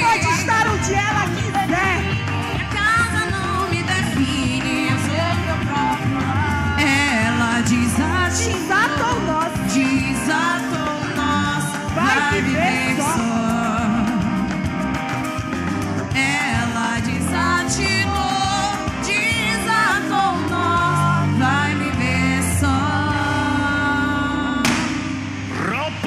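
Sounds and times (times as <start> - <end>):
person singing: 0.0 - 14.6, 16.1 - 24.9
band playing: 0.0 - 26.0.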